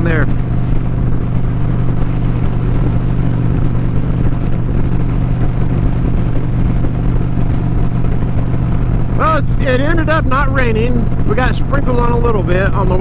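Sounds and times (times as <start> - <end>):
wind rushing: 0.0 - 12.8
motorcycle engine cruising: 0.0 - 13.0.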